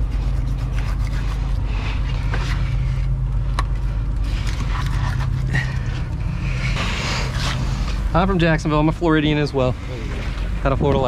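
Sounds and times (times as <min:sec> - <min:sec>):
outboard motors idling: 0:00.0 - 0:11.0.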